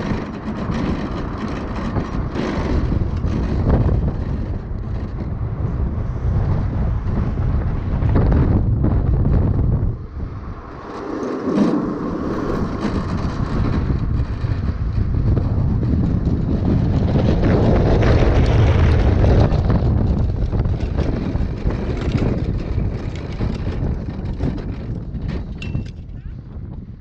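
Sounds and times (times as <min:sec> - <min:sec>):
land yacht rolling rumble: 0:00.0 - 0:27.0
wind buffeting microphone: 0:00.0 - 0:27.0.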